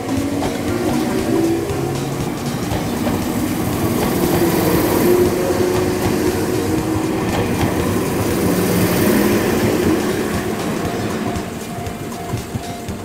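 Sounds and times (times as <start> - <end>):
train wheels rumbling and clacking: 0.0 - 13.0.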